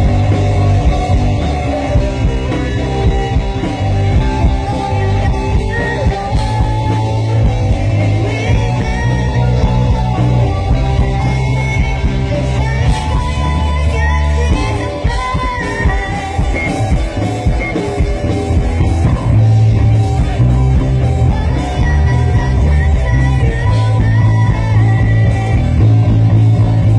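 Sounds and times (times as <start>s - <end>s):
live rock band playing: 0.0s - 26.9s
person singing: 0.0s - 26.9s.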